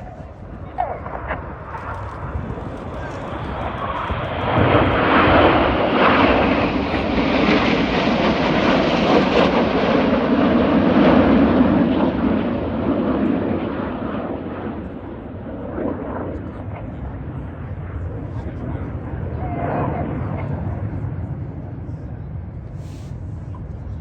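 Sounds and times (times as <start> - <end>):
aircraft engine flying past: 0.0 - 24.0.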